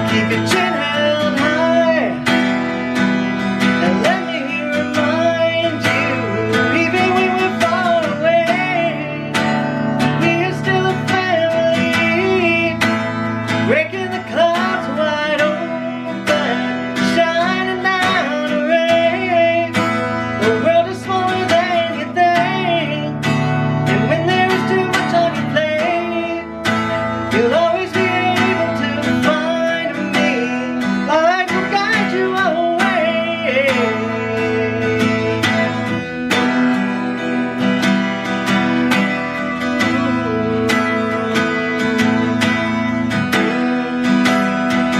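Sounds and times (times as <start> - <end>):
acoustic guitar strumming: 0.0 - 44.9
person singing slow song: 0.0 - 44.9.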